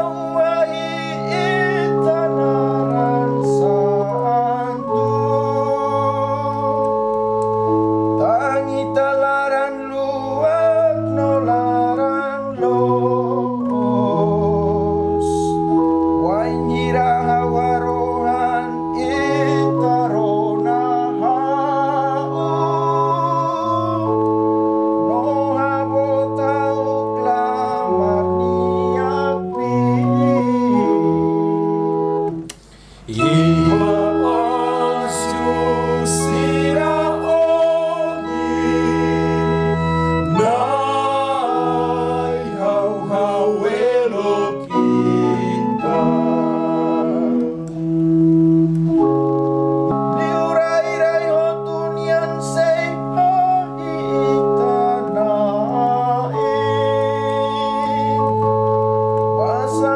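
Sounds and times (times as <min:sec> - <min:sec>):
man singing a psalm: 0:00.0 - 0:47.9, 0:49.9 - 0:59.9
electronic organ chords: 0:00.0 - 0:59.9.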